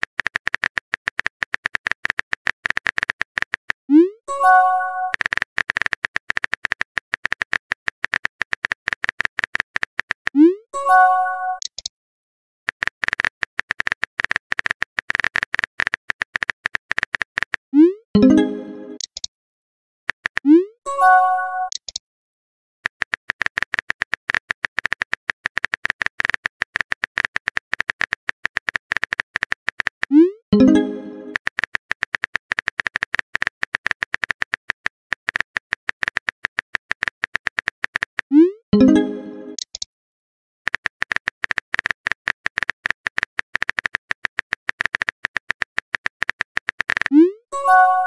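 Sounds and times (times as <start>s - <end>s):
phone keyboard typing clicks: 0.0s - 10.4s, 11.6s - 11.9s, 12.7s - 19.3s, 20.1s - 20.5s, 21.7s - 22.0s, 22.8s - 39.9s, 40.7s - 48.0s.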